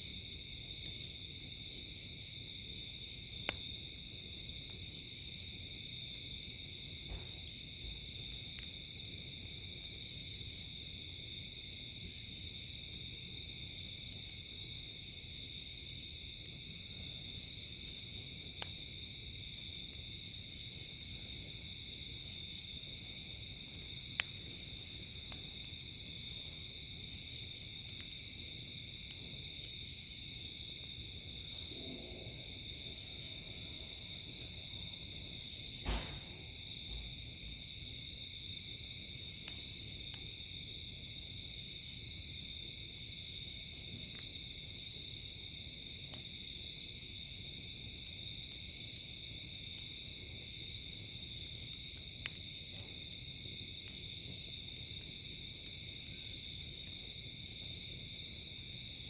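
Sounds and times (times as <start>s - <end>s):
campfire popping: 0.0s - 59.0s
crickets and insects chorus: 0.0s - 59.0s.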